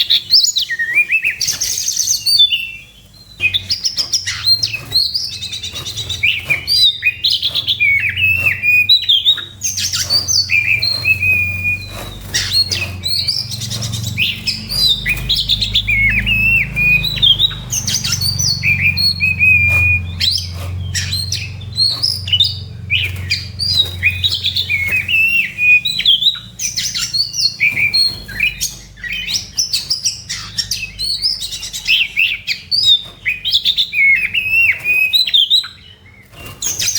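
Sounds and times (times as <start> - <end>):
bird singing whistles and trills: 0.0 - 36.9.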